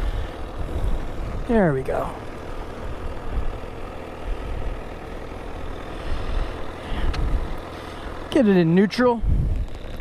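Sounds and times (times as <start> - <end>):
gusty wind rumble: 0.0 - 8.4, 9.1 - 10.0
motorcycle engine running at low revs: 0.0 - 10.0.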